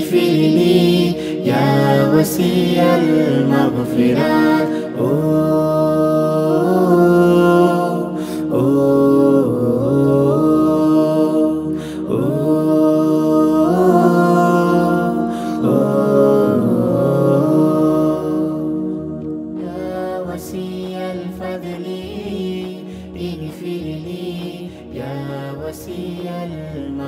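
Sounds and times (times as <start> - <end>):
group singing a cappella: 0.0 - 27.0.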